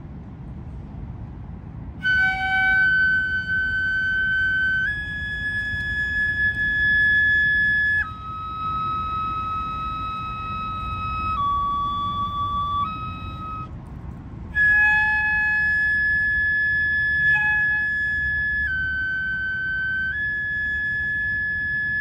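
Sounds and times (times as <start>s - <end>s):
bamboo flute long high notes: 2.0s - 13.8s, 14.5s - 22.0s.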